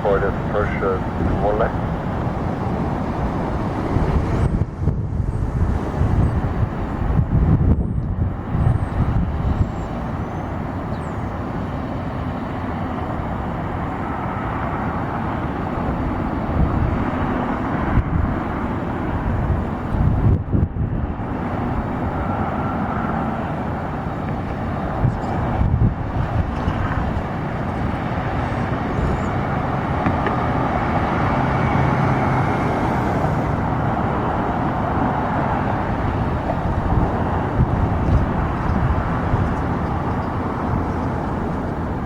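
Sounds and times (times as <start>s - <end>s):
outdoor rumbling background noise: 0.0s - 42.0s.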